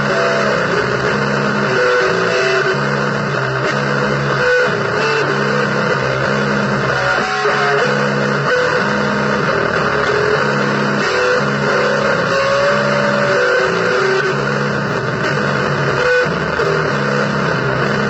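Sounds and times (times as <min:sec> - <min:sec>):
blues electric guitar: 0:00.0 - 0:18.0.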